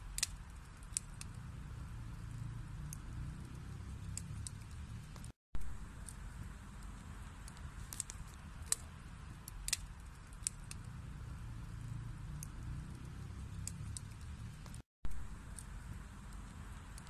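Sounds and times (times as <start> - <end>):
burning logs popping and snapping: 0.0 - 17.0
low rumble of flames: 0.0 - 17.0.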